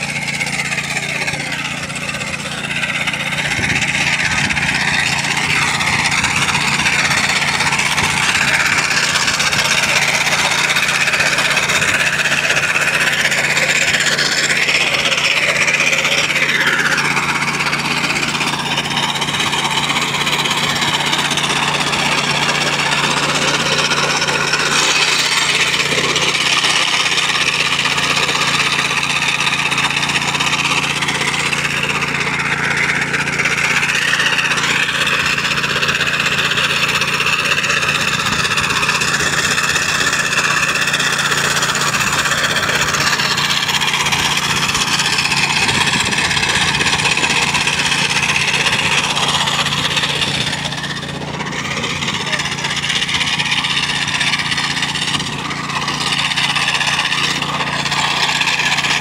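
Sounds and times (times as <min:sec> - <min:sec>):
blade slicing turf: 0:00.0 - 0:59.0
sod cutter engine running: 0:00.0 - 0:59.0.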